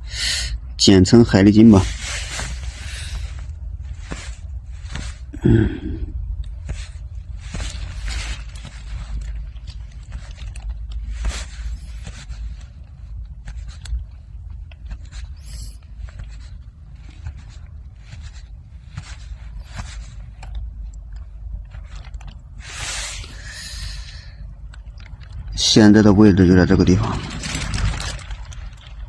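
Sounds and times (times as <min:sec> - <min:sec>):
tent fabric flapping: 0:01.7 - 0:05.4, 0:06.6 - 0:24.1, 0:24.8 - 0:29.0.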